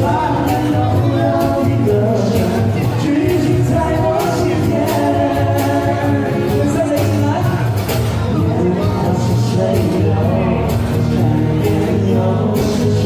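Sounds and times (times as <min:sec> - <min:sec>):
live band playing pop: 0:00.0 - 0:13.0.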